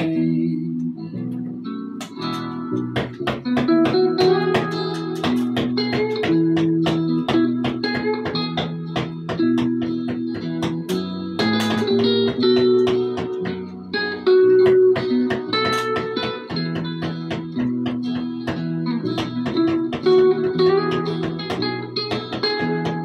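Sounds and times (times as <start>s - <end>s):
country guitar instrumental: 0.0s - 23.0s.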